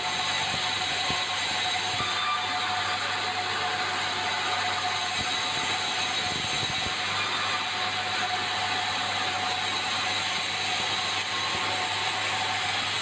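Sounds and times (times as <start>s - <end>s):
sawmill machinery noise: 0.0s - 13.0s
steady machine whine: 0.0s - 13.0s.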